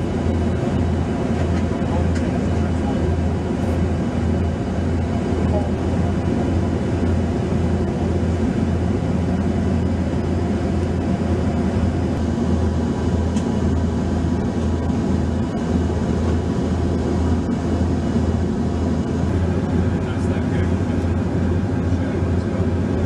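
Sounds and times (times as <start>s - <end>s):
aircraft cabin drone: 0.0s - 23.0s.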